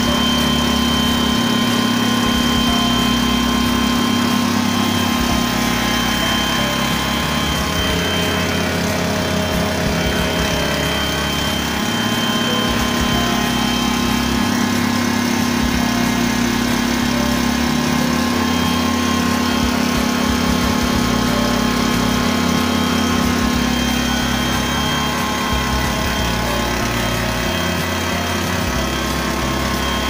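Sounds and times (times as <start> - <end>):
small engine driving grinding mill: 0.0 - 30.0.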